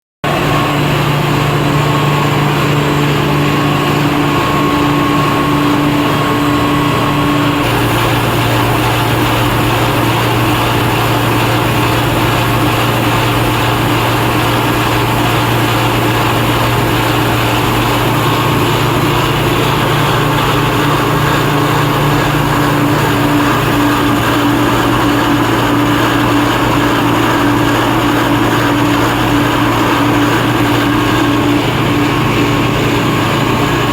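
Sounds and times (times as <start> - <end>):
machine hum: 0.2 - 33.9.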